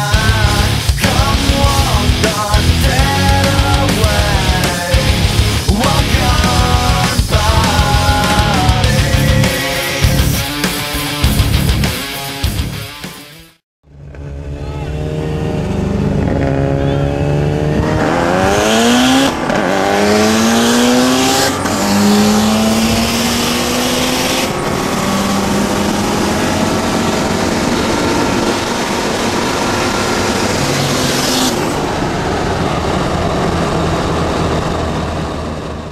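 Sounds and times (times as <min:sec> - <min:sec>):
car engine at full throttle: 0:00.0 - 0:12.6, 0:13.8 - 0:35.9.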